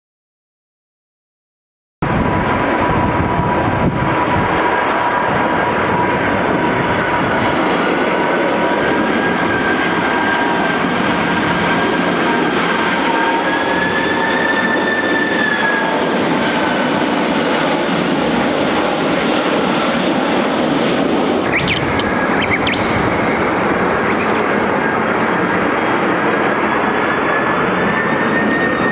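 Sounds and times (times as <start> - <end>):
jet engines with fan whine: 2.0 - 28.9.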